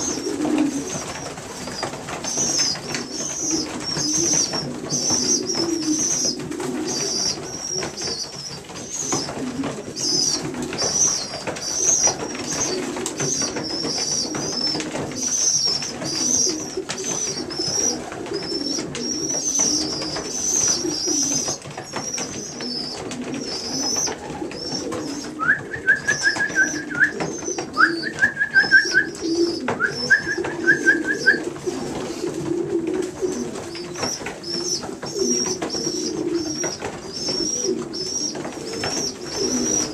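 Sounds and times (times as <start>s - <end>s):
pigeons cooing: 0.0s - 39.9s
young pigeons peeping: 0.0s - 39.9s.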